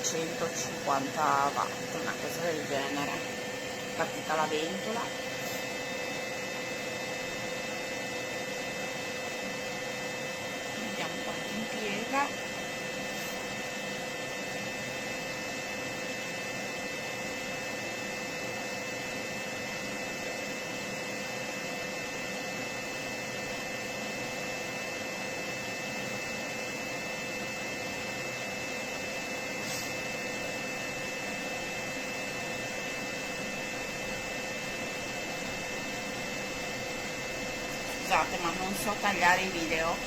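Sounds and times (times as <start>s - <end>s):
generator cooling fan whirring: 0.0s - 40.0s.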